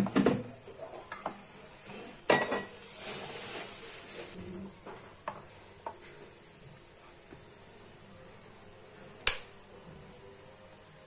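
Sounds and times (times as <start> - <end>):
soft sizzling hiss: 0.0 - 11.0.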